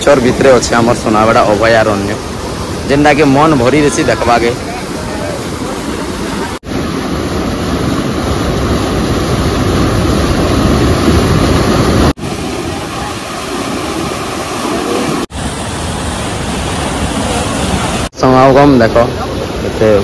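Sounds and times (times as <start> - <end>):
water rushing over rock ledges: 0.0 - 20.0.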